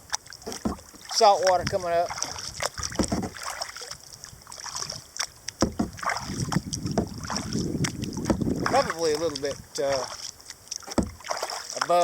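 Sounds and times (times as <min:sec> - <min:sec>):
paddle splashing through water: 0:00.0 - 0:12.0.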